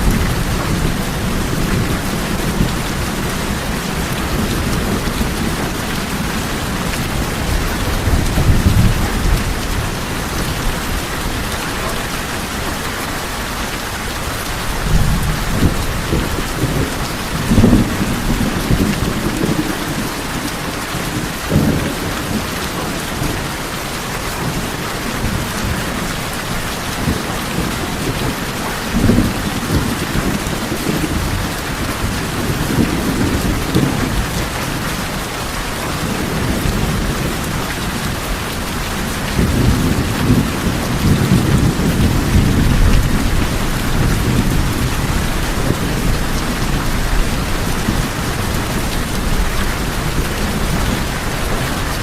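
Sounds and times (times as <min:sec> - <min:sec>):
rain drumming on a tin roof: 0:00.0 - 0:52.0
thunder rumbling: 0:00.0 - 0:52.0.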